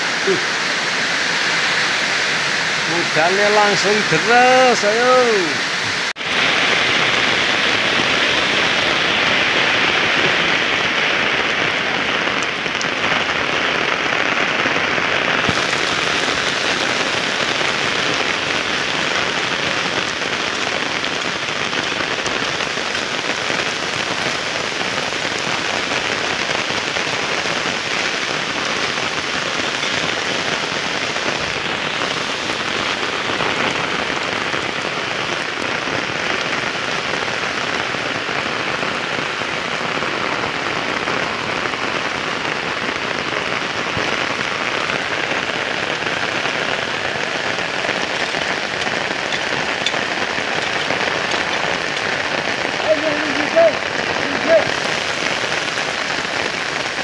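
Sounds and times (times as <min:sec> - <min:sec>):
heavy rain on road: 0:00.0 - 0:57.0.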